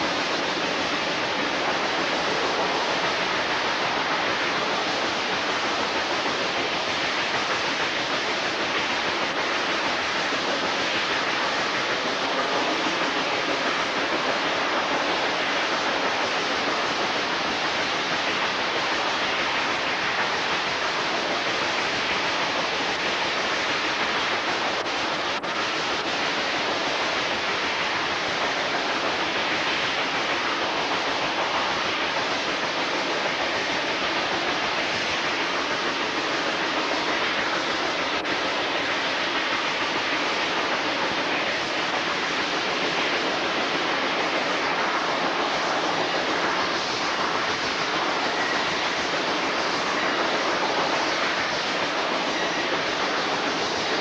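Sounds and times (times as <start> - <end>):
train running noise: 0.0 - 54.0.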